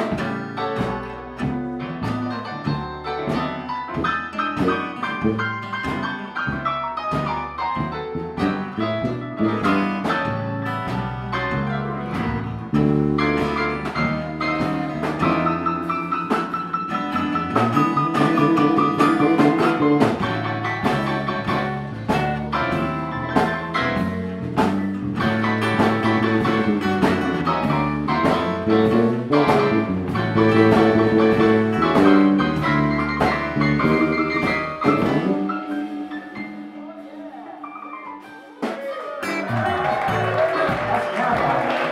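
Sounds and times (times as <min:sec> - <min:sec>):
live blues band playing: 0:00.0 - 0:41.9.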